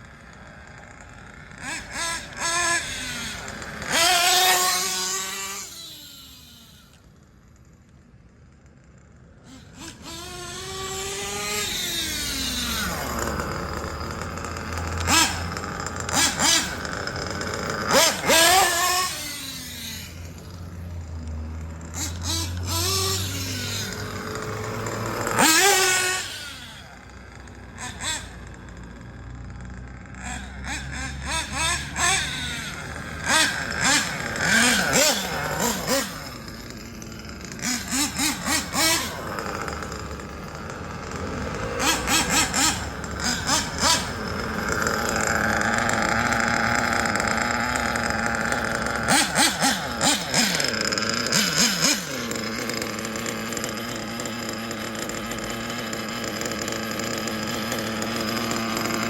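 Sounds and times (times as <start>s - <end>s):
rc car engine revving: 0.0s - 59.0s.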